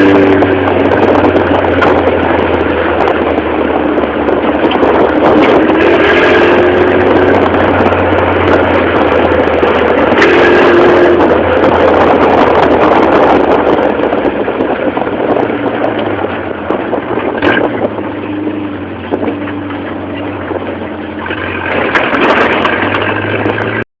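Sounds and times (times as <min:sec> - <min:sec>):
buggy engine running: 0:00.0 - 0:23.9.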